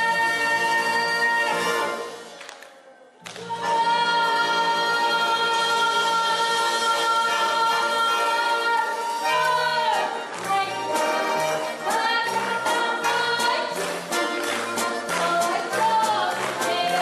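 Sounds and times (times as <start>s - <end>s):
instrumental backing: 3.3s - 17.0s.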